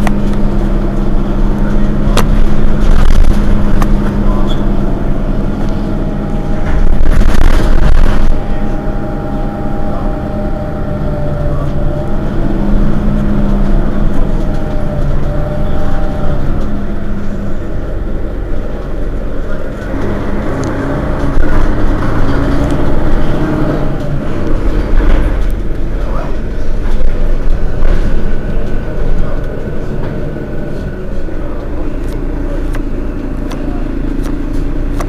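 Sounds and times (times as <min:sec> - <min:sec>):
bus diesel engine idling: 0:00.0 - 0:35.0.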